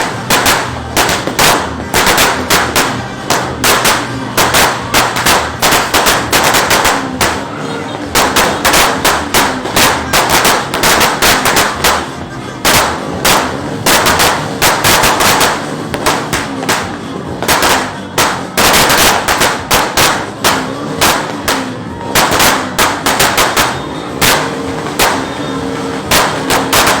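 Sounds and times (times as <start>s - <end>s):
firecrackers banging: 0.0s - 27.0s.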